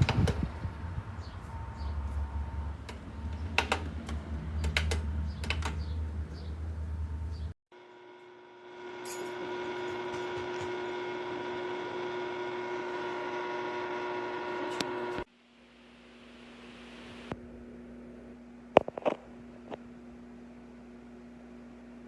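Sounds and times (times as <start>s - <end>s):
tower fan motor whine: 0.0s - 5.0s, 7.8s - 15.3s, 16.0s - 22.0s.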